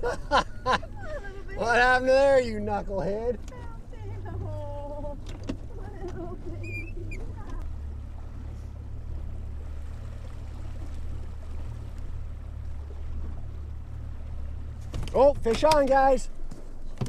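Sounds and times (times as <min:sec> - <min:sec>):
outboard motor humming: 0:00.0 - 0:17.0
water wash: 0:00.0 - 0:17.0.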